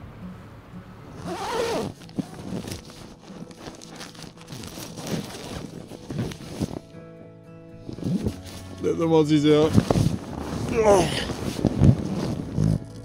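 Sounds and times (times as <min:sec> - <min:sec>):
nylon bag rustling: 0:01.1 - 0:07.0, 0:07.8 - 0:13.0.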